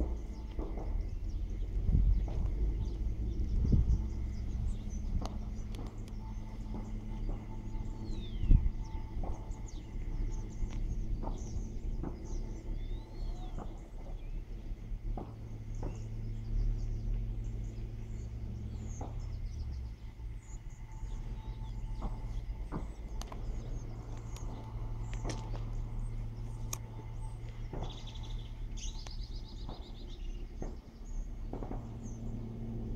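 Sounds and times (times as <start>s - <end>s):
birds chirping: 0.0s - 32.9s
steady low rumble: 0.0s - 32.9s.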